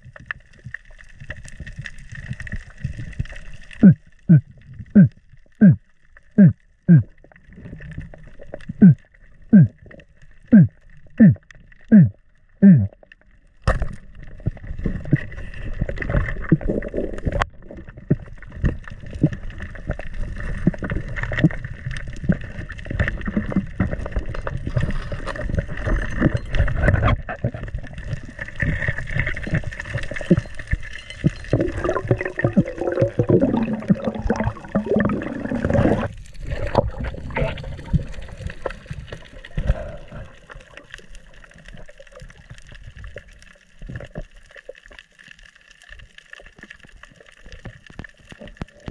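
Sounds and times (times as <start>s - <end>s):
crackling clicks: 0.0s - 48.9s
water gurgling underwater: 0.0s - 48.9s.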